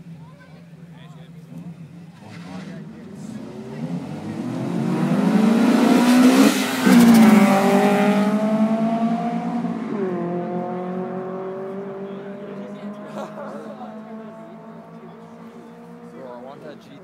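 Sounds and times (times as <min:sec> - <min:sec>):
car accelerating past: 0:01.5 - 0:16.5.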